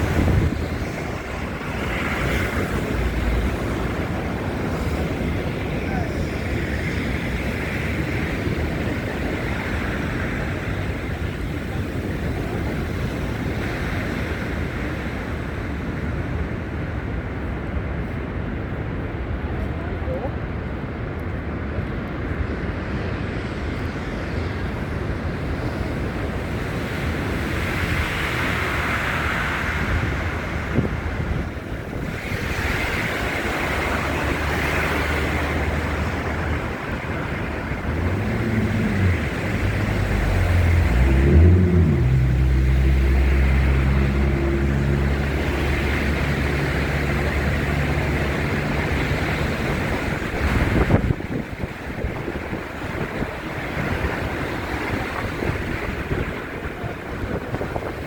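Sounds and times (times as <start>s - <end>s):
large engine humming: 0.0s - 58.0s
wind buffeting microphone: 0.0s - 58.0s.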